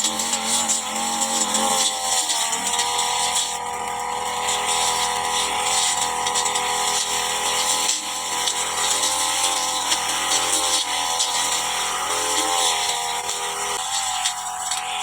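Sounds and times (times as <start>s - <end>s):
brush cutter engine at high revs: 0.0s - 15.0s.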